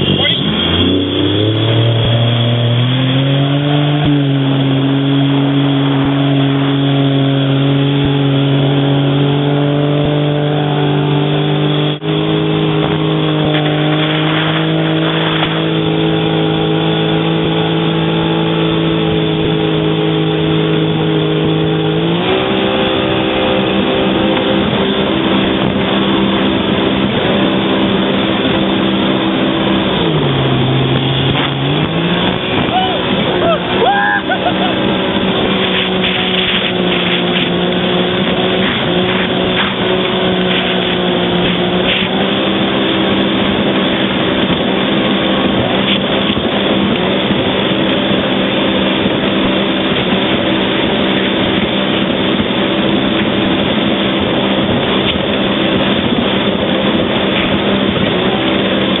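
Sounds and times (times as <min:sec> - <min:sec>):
jet ski engine revving: 0:00.0 - 0:59.0.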